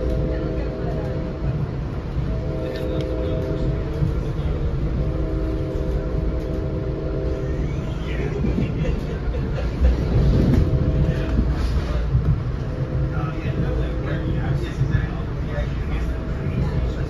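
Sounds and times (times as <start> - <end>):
droning hum: 0.0 - 17.0
train coach rumbling on rails: 0.0 - 17.0.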